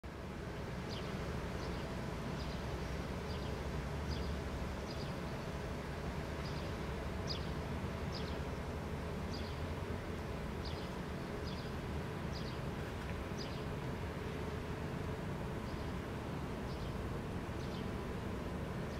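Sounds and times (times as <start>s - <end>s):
low background rumble: 0.1s - 18.9s.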